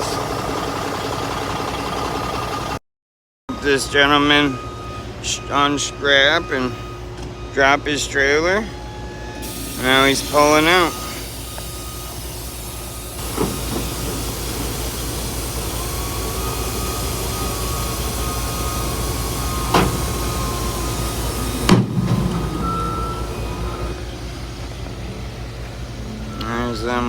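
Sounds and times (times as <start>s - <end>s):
diesel truck engine running: 0.0s - 2.8s, 3.6s - 27.0s.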